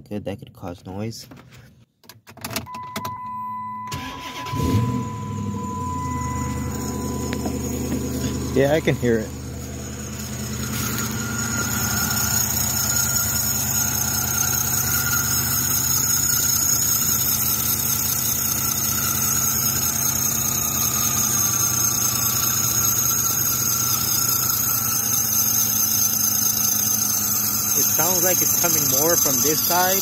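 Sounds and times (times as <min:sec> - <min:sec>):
car engine idling: 0:03.4 - 0:30.0
engine belt squealing: 0:03.9 - 0:30.0.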